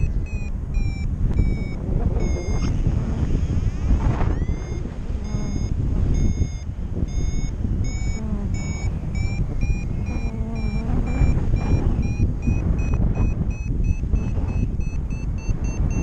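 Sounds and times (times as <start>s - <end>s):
short electronic beeps: 0.0s - 16.0s
wind on microphone: 0.0s - 16.0s.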